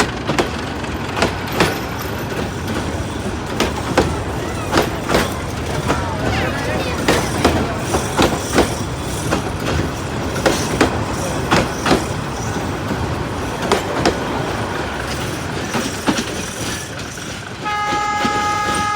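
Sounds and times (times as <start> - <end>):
train rumble: 0.0 - 18.9
wheels clicking over rail joints: 0.0 - 18.9.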